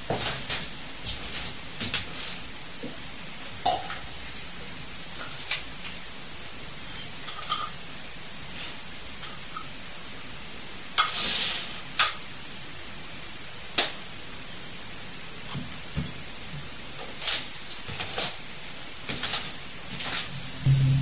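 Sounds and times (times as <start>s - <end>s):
recorder hiss: 0.0s - 21.0s.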